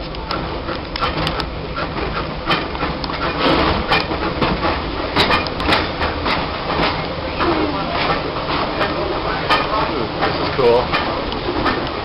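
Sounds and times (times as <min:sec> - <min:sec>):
train rumbling on rails: 0:00.0 - 0:12.0
train wheels clicking and clacking: 0:00.0 - 0:12.0.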